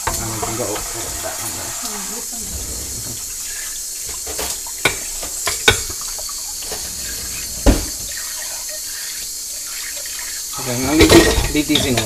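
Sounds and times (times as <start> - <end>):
bowls and pot clinking: 0.0 - 12.0.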